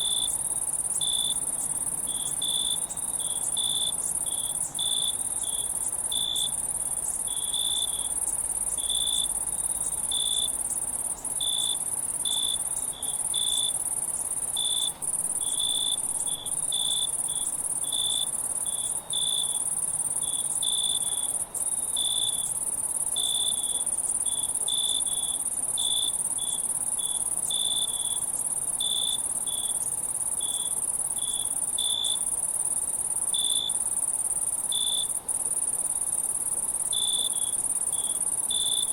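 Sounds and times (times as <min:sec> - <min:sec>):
cricket-like chirps: 0:00.0 - 0:38.9
high-pitched insect trill: 0:00.0 - 0:38.9.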